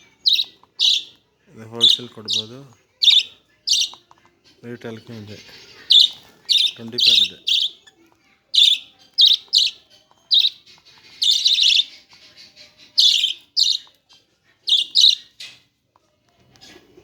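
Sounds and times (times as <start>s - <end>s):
budgerigars chirping and chattering: 0.0s - 15.8s.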